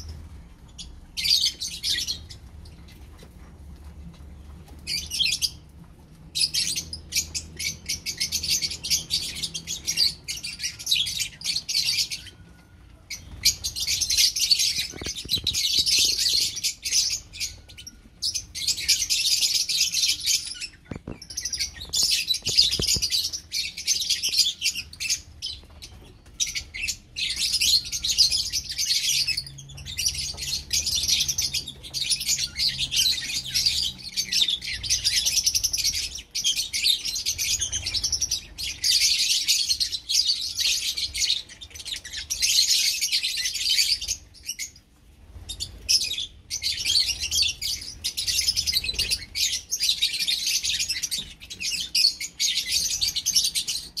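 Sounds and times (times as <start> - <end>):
lovebirds chattering: 0.0 - 54.0.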